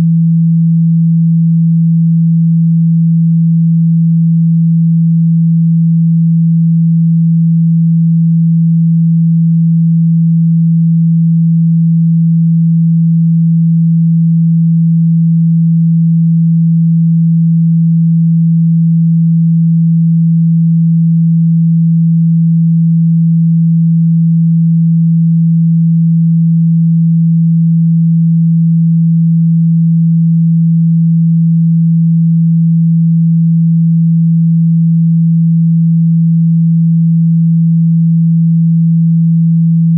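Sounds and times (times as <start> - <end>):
steady low pure tone: 0.0 - 39.9.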